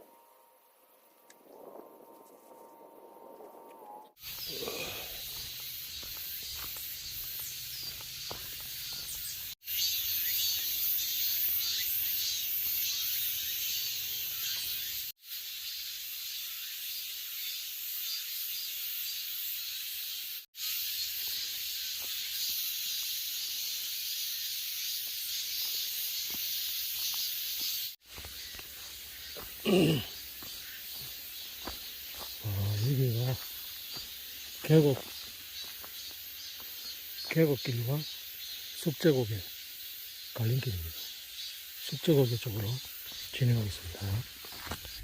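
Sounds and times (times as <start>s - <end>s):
high-pitched outdoor hiss: 0.0s - 45.0s.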